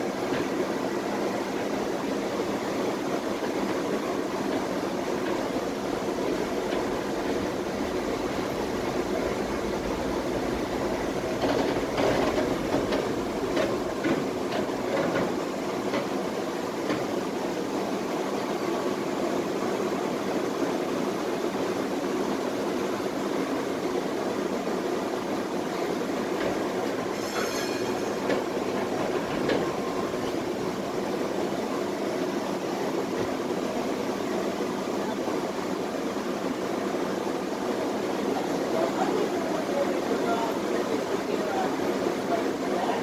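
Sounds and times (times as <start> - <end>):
tram wheels rumbling: 0.0 - 20.3, 21.5 - 43.0.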